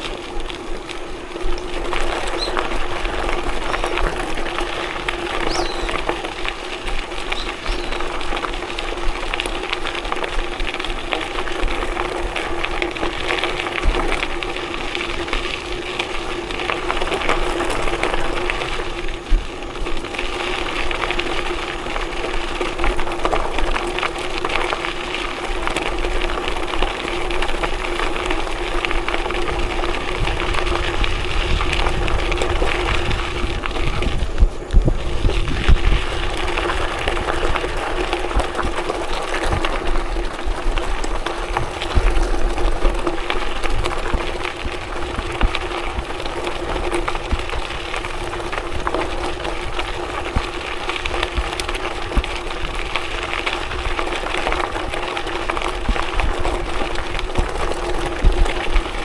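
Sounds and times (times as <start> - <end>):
tyres rumbling on gravel: 0.0 - 59.0.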